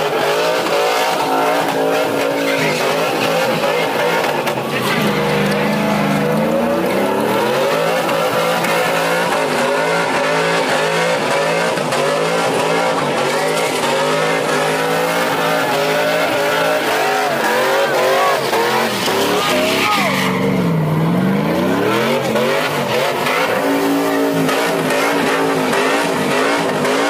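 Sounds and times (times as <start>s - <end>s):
engine at high revs: 0.0s - 27.0s
tyres squealing on pavement: 0.0s - 27.0s.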